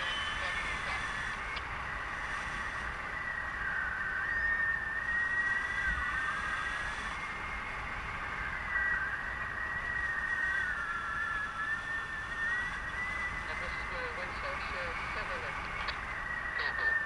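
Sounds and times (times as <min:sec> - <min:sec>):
airflow rushing over microphone: 0:00.0 - 0:17.0
high whistling tone: 0:00.0 - 0:17.0.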